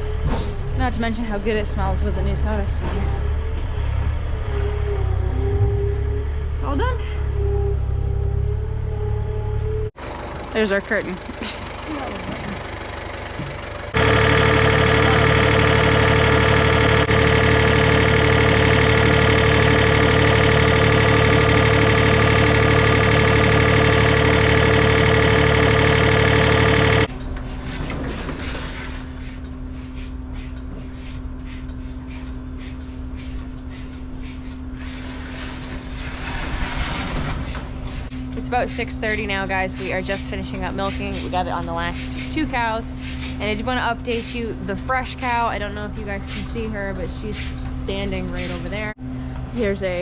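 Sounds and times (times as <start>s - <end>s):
loud engine running: 0.0s - 27.2s, 31.0s - 50.0s.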